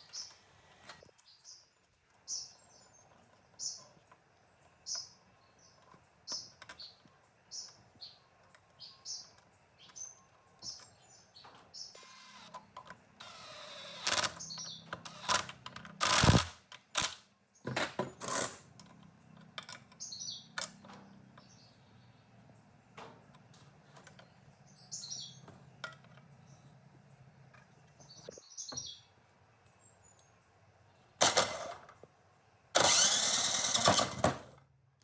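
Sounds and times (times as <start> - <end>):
bird chirping: 0.0 - 16.4, 17.3 - 31.7.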